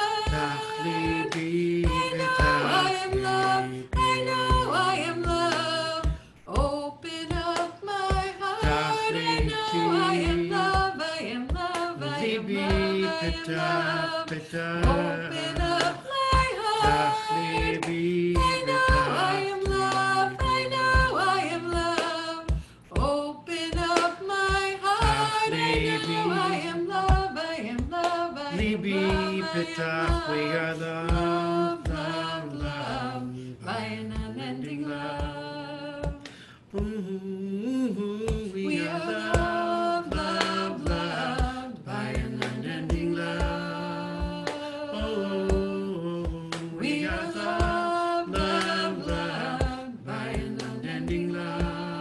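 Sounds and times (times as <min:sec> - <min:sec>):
musical accompaniment with beat: 0:00.0 - 0:37.0, 0:38.3 - 0:52.0
person singing a chant: 0:00.0 - 0:52.0.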